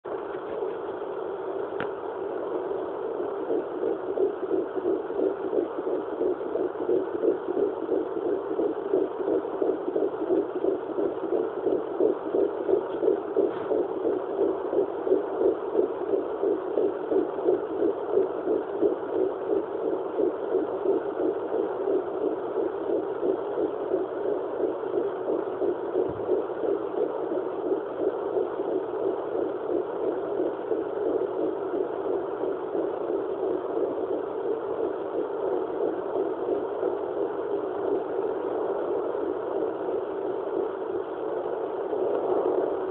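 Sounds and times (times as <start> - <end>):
fast whooshing heartbeat pulse: 0.5 - 42.9.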